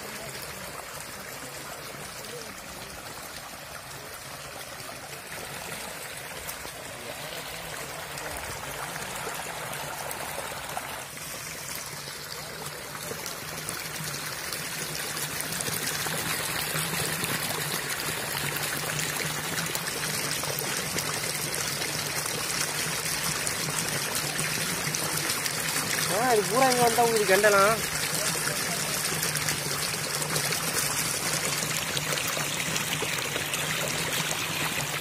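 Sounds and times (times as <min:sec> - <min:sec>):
water running and splashing: 0:00.0 - 0:35.0.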